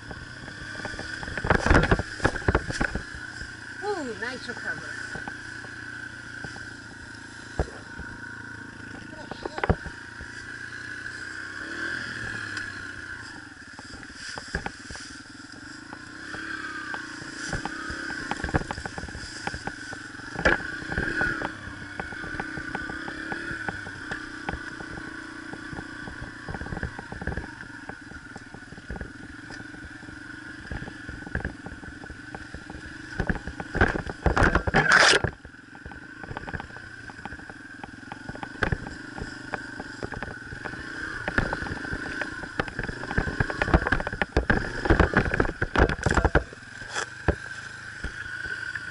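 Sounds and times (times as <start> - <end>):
bike knocking over bumps: 0.0 - 10.6, 15.8 - 48.9
motorcycle engine running: 0.0 - 48.9.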